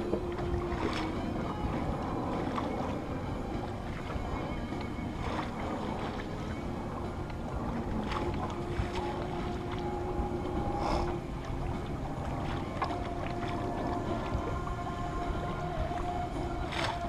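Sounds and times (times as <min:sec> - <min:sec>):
water washing along a hull: 0:00.0 - 0:17.0
wind buffeting microphone: 0:00.0 - 0:17.0.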